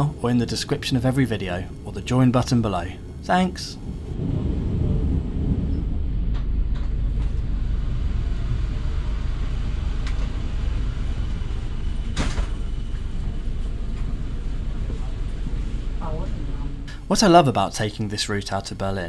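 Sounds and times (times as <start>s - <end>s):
train coach rumbling on track: 0.0s - 19.0s.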